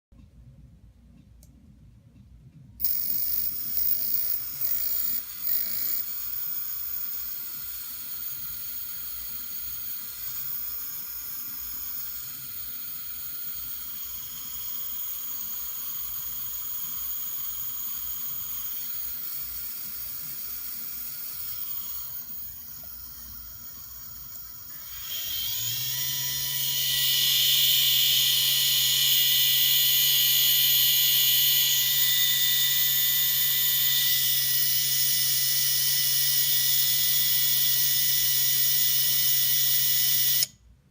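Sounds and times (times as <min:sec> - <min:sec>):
motor whirring and whining: 0:02.8 - 0:40.6.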